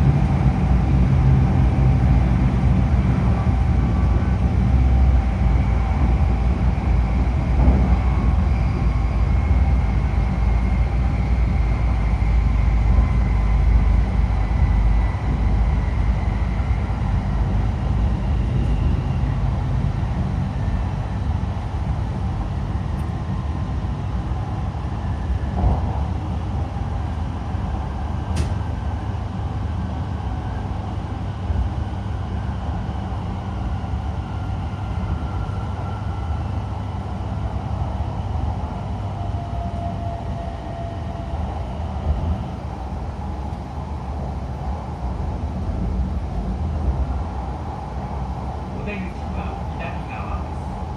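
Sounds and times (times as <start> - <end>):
train wheels rumbling on track: 0.0 - 50.9.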